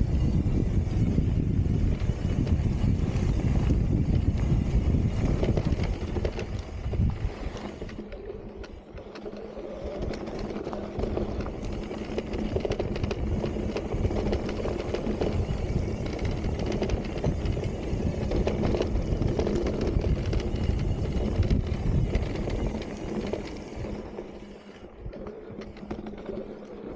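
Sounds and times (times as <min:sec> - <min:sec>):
bike rattling and clicking: 0:00.0 - 0:26.9
bike tyres rumbling over stones: 0:00.0 - 0:26.9.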